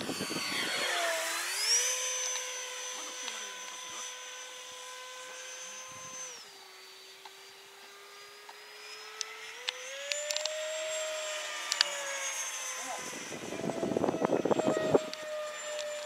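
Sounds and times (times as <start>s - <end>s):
model airplane motor whine: 0.0s - 16.0s.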